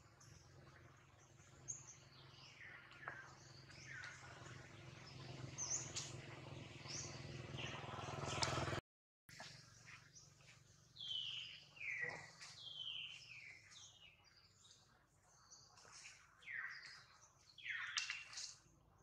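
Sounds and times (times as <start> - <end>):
birds chirping: 0.0 - 8.8, 9.4 - 18.7.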